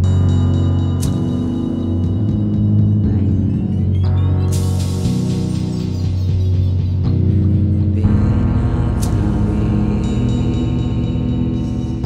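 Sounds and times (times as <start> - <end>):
electronic low drone: 0.0 - 12.0.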